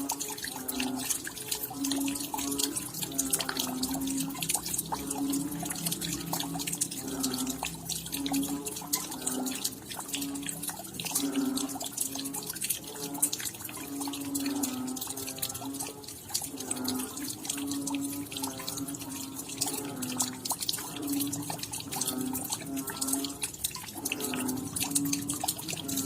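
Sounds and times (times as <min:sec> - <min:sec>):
raindrops dripping: 0:00.0 - 0:26.0.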